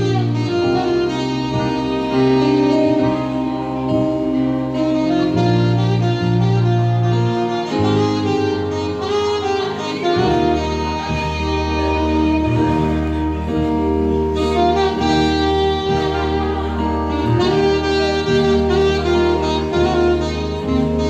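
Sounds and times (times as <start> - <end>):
bass line: 0.0 - 21.0
saxophone melody: 0.0 - 21.0.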